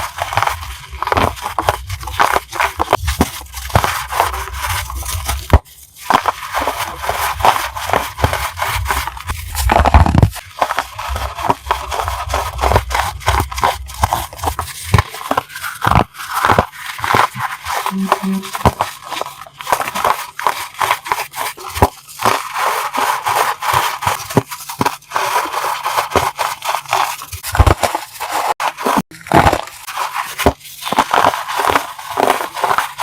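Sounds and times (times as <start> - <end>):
chalk being crushed: 0.0 - 33.0.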